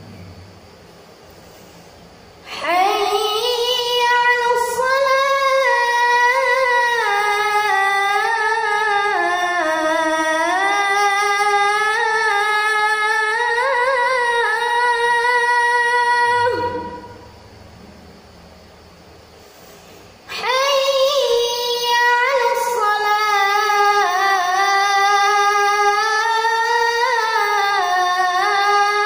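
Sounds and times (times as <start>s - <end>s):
boy chanting into a microphone: 2.4s - 17.4s, 20.2s - 29.0s.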